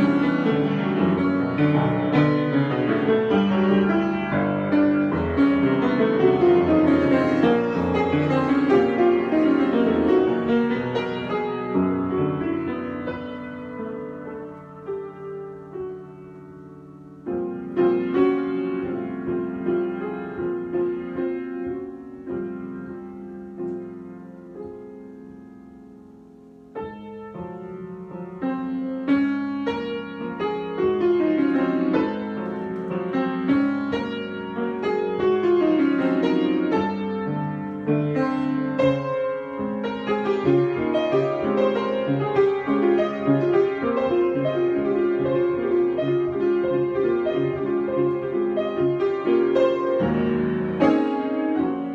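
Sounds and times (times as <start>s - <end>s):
solo piano: 0.0s - 51.9s.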